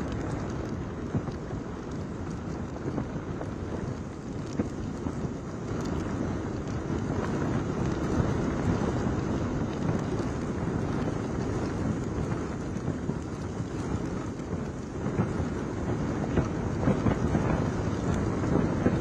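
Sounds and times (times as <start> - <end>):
rain hissing: 0.0 - 19.0
wind rumbling on microphone: 0.0 - 19.0.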